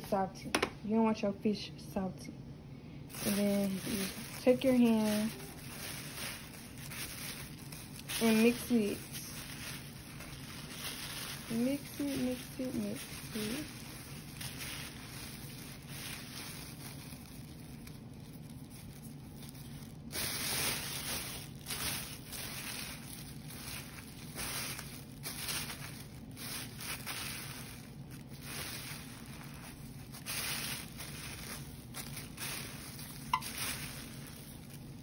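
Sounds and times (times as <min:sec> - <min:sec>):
plastic bag rustling: 0:03.0 - 0:35.0.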